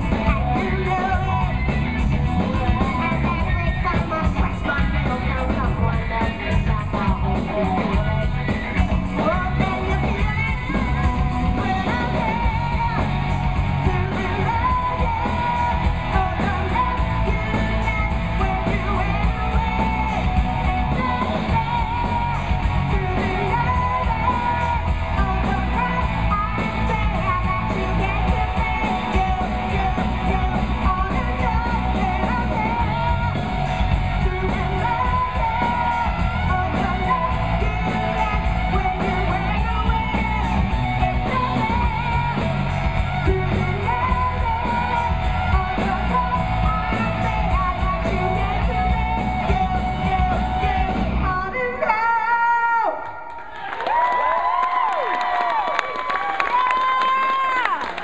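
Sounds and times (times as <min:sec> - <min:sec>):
live rock band: 0:00.0 - 0:52.8
woman singing: 0:00.0 - 0:53.0.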